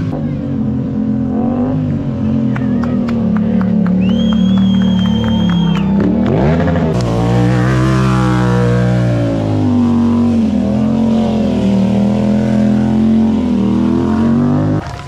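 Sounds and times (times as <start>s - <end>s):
motorcycle engine revving high: 0.0s - 15.0s.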